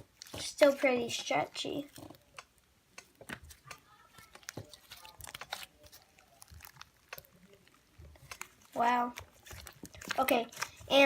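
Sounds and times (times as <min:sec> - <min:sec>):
slime squished by hand: 0:00.0 - 0:11.0
sticky clicks and crackles: 0:00.0 - 0:11.0.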